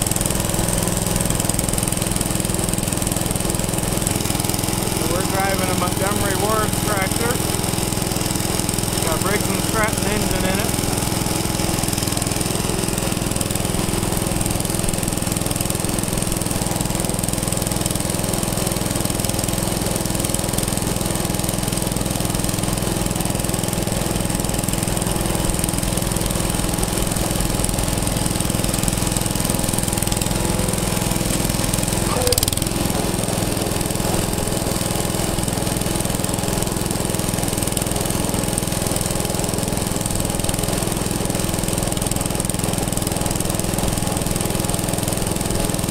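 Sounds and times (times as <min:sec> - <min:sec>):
engine chugging: 0:00.0 - 0:45.9.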